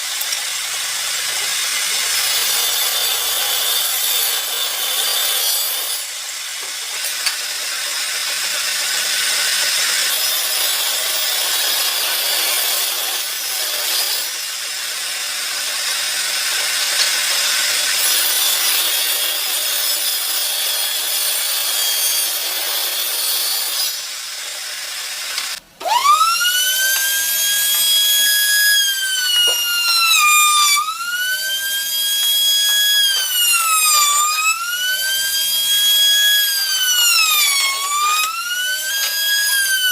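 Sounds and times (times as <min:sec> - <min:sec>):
electric tool motor whining: 0:00.0 - 0:39.9
wood being sawn: 0:00.0 - 0:39.9.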